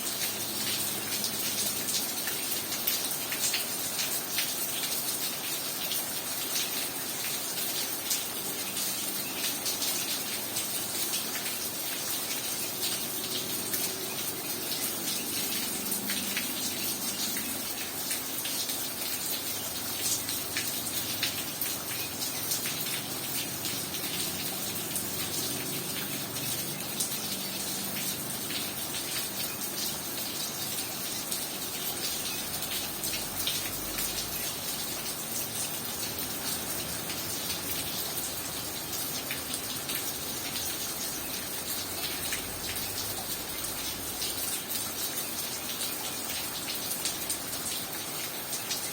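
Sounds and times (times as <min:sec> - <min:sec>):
heavy rain falling: 0:00.0 - 0:48.9
water gushing: 0:00.0 - 0:48.9.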